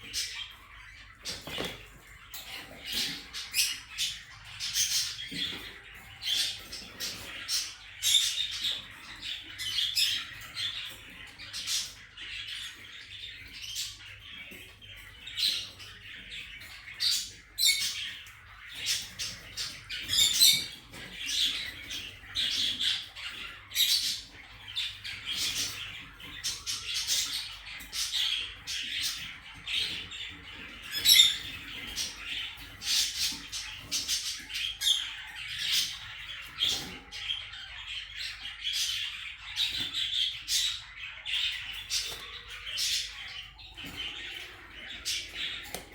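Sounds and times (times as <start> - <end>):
parakeets chirping and squawking: 0.0 - 45.9.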